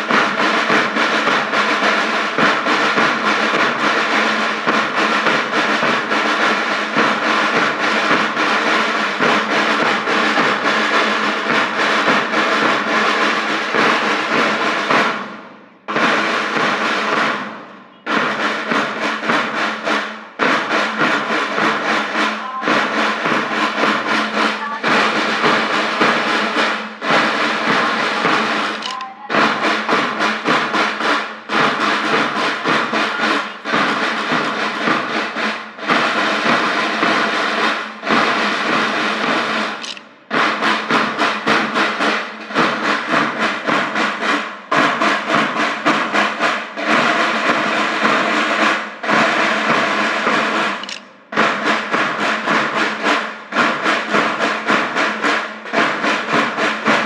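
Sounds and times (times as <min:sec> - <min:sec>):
snare drum rolls: 0:00.0 - 0:57.0.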